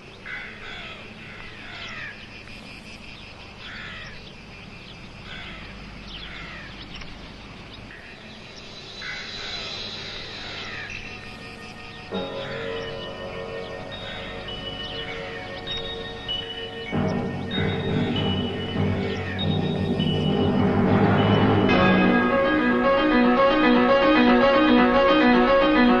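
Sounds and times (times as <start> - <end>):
bird chirping: 0.0 - 23.6
outdoor background noise: 0.0 - 24.2.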